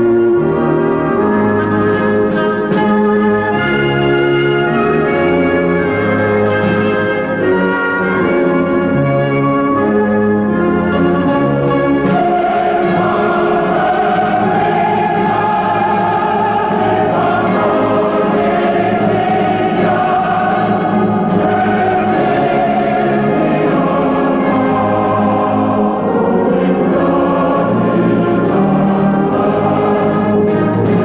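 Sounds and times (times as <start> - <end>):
choir singing held chords: 0.0 - 31.0
slow orchestral music: 0.0 - 31.0.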